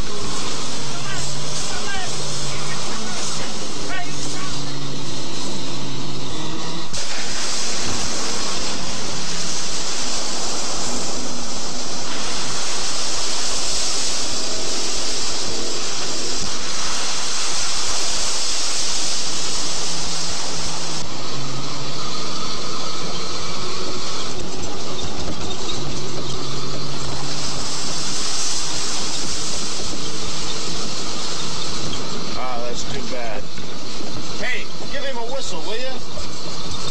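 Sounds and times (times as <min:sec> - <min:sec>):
truck engine running: 0:00.0 - 0:36.9.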